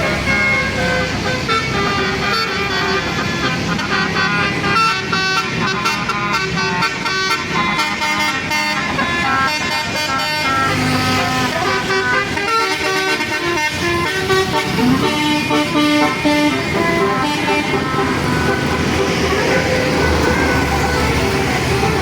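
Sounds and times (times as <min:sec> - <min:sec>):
bus horn playing a tune: 0:00.0 - 0:22.0
engine noise: 0:00.0 - 0:22.0
street noise: 0:00.0 - 0:22.0.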